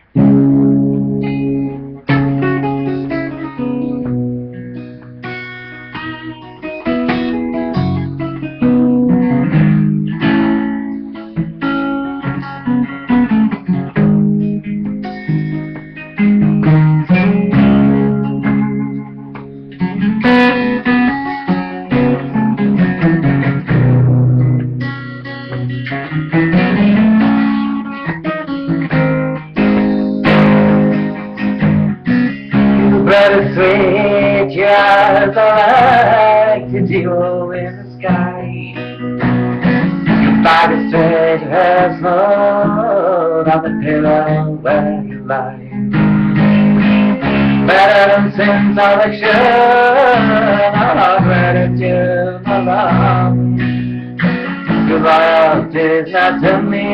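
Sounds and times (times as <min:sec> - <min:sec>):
guitar chords: 0:00.0 - 0:56.9.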